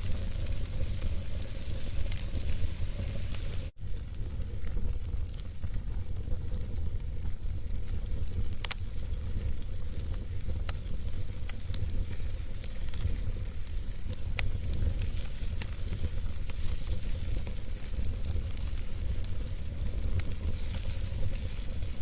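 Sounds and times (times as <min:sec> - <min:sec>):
fire crackling and popping: 0:00.0 - 0:22.0
fire rumble and hiss: 0:00.0 - 0:22.0.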